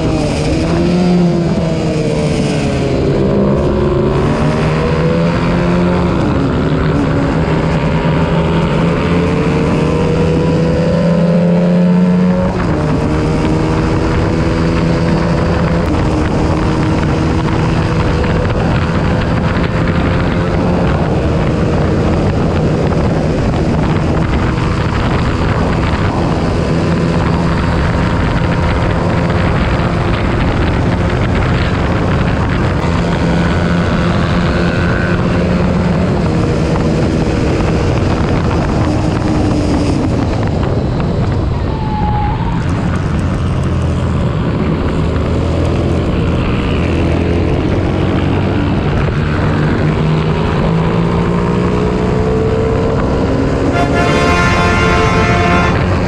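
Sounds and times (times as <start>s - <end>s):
motorcycle engine revving high: 0.0s - 56.0s
wind rush: 0.0s - 56.0s.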